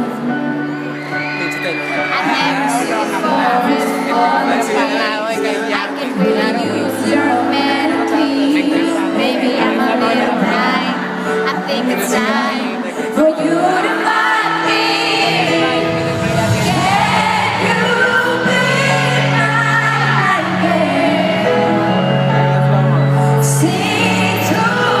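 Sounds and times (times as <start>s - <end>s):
live band playing pop ballad: 0.0s - 25.0s
woman singing: 2.1s - 16.0s, 16.6s - 22.2s, 23.4s - 25.0s.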